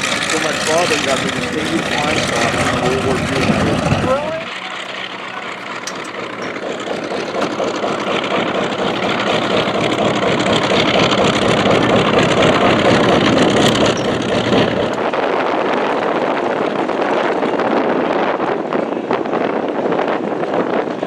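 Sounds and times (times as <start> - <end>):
propeller plane flying past: 0.0 - 18.3.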